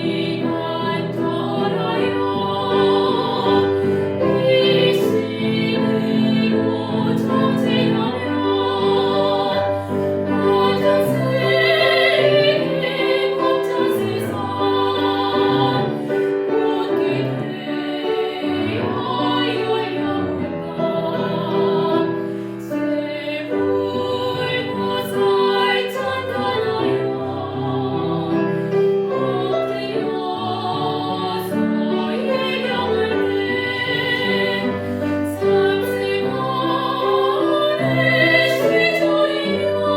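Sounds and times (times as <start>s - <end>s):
person singing a hymn with vibrato: 0.0s - 39.9s
piano accompaniment: 0.0s - 39.9s.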